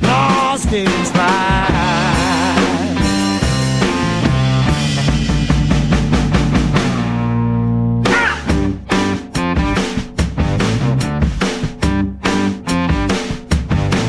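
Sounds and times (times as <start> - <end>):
psychedelic rock instrumental: 0.0 - 14.0.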